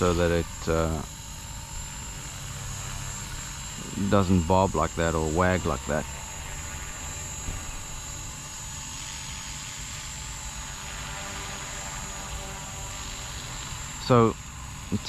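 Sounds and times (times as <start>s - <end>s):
electric motor whine: 0.0s - 15.0s
rotor blades humming: 0.0s - 15.0s.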